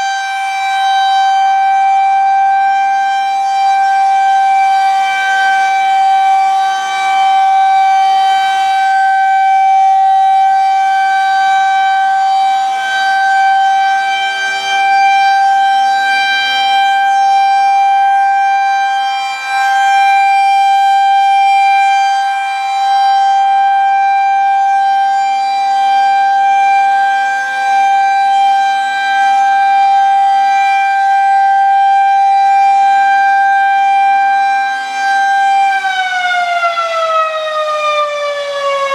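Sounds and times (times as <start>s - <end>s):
rotating siren steady tone: 0.0s - 38.9s.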